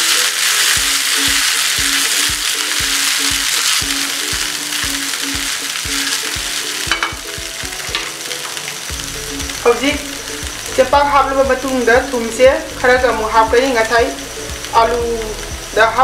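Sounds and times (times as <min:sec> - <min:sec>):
background music with beat: 0:00.0 - 0:16.0
food sizzling in a pan: 0:00.0 - 0:16.0.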